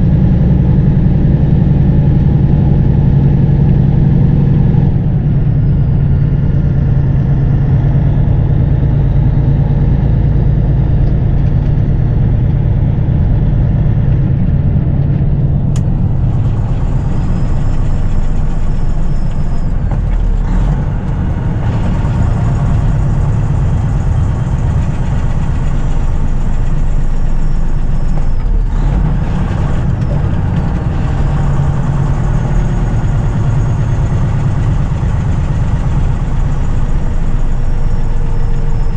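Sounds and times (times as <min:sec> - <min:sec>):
road noise: 0:00.0 - 0:38.9
truck diesel engine running: 0:00.0 - 0:38.9.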